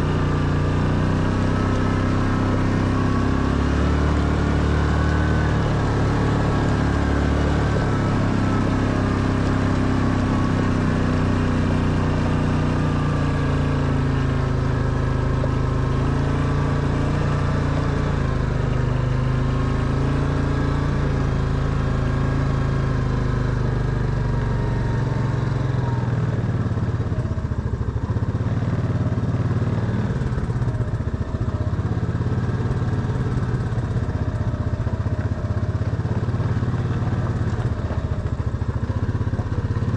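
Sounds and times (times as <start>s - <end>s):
quad bike engine: 0.0s - 39.9s.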